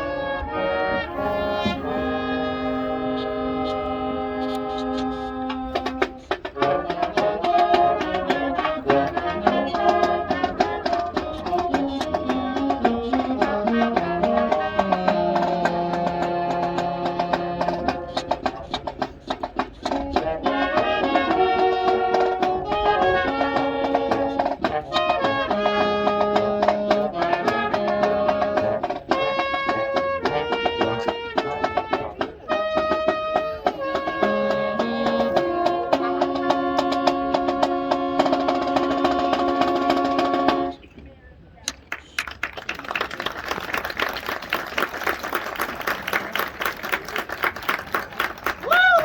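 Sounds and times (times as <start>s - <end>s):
marching band playing: 0.0s - 40.9s, 41.7s - 49.0s.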